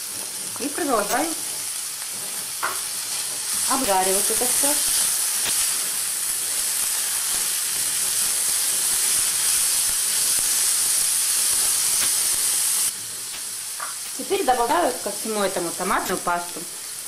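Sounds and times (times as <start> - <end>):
vegetables sizzling in frying pan: 0.0 - 17.0.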